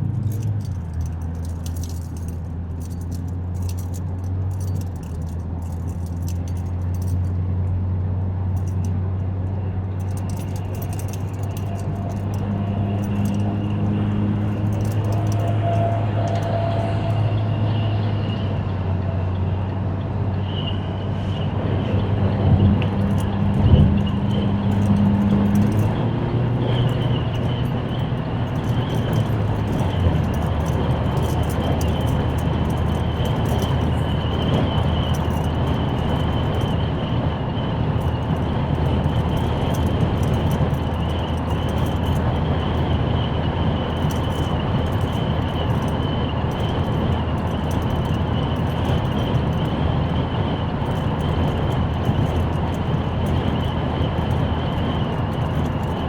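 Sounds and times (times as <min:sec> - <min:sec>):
car engine hum: 0:00.0 - 0:56.0
road noise: 0:00.0 - 0:56.0.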